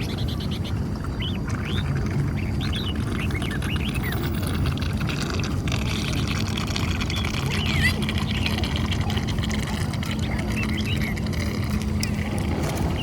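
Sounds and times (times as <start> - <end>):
small birds chirping: 0.0 - 4.6, 6.9 - 13.0
steady low rumble: 0.0 - 13.0.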